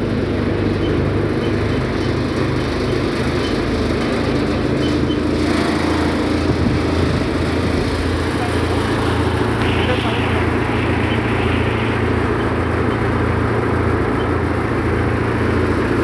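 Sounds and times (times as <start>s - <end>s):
thresher engine droning: 0.0s - 16.0s.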